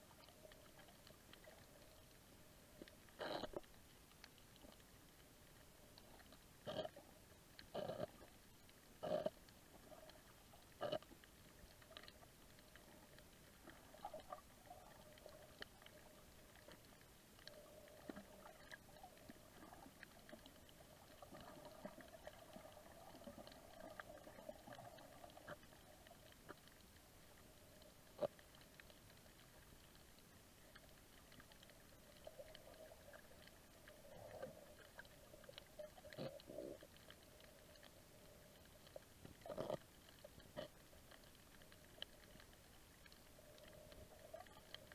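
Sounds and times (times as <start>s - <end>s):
underwater crackle: 0.0s - 44.9s.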